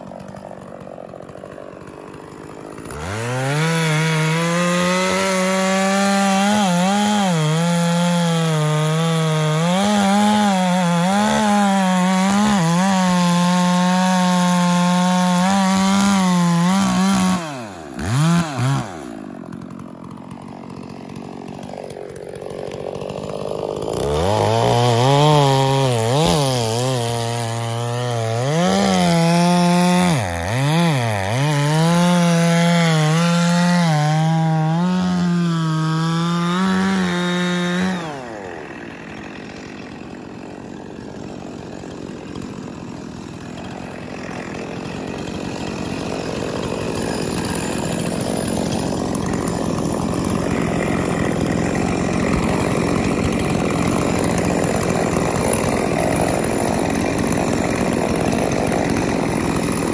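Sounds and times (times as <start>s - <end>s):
chainsaw cutting through log: 0.0s - 59.9s.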